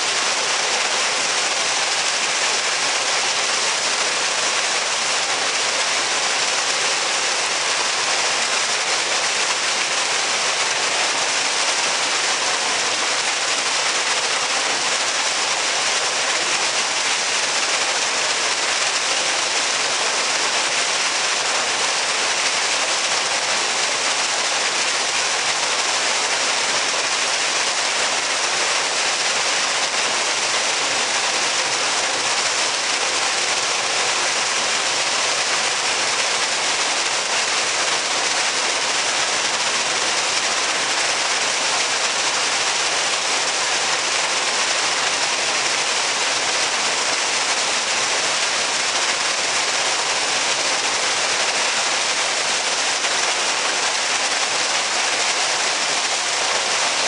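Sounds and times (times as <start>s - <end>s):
waterfall splashing into pool: 0.0s - 57.0s.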